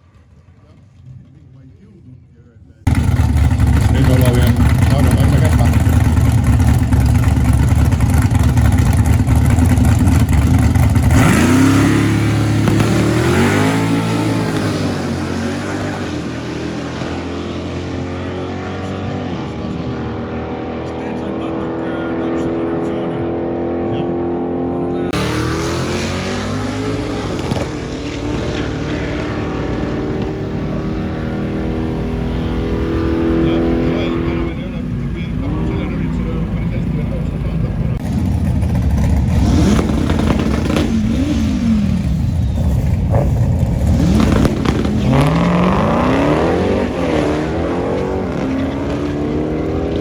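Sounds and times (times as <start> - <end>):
drag car engine at full throttle: 2.8 - 50.0.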